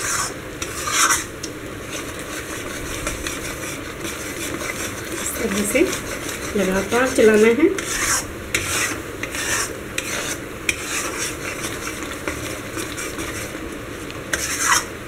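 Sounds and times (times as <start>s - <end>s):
metal spatula scraping a pan: 0.0s - 13.6s, 14.3s - 14.9s
batter sizzling: 0.0s - 15.0s.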